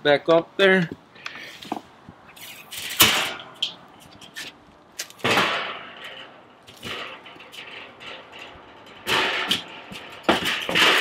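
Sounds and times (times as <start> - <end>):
metal scraping and rattling: 1.6 - 11.0.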